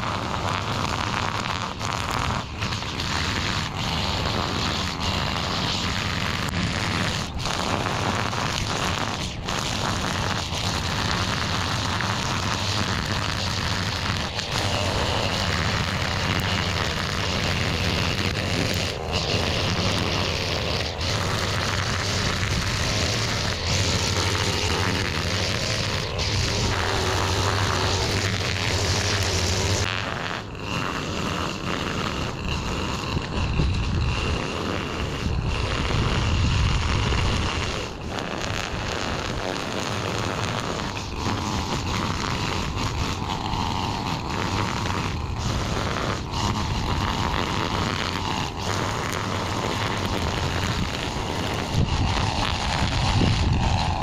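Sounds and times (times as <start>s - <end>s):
small gas engine running: 0.0s - 54.0s.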